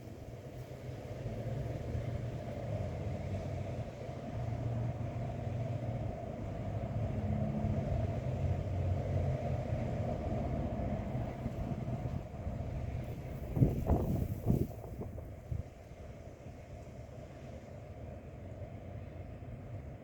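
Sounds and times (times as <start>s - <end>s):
wind rumbling on microphone: 0.0s - 17.2s.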